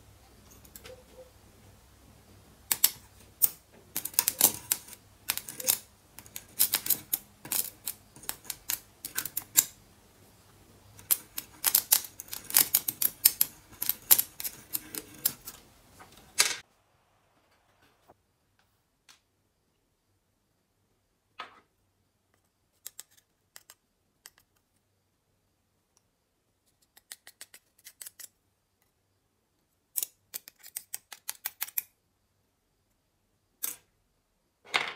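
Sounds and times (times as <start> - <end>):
faint electrical hum: 0.0 - 34.9.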